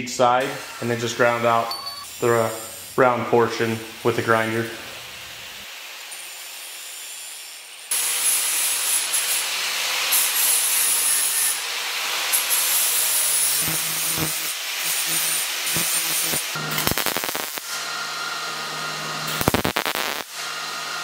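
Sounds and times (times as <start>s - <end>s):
angle grinder grinding steel: 0.4s - 21.0s.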